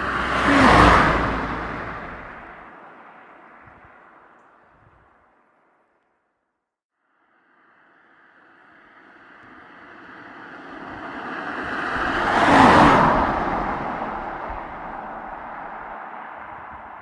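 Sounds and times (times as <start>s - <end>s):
car passing by: 0.0s - 4.6s, 7.4s - 17.0s.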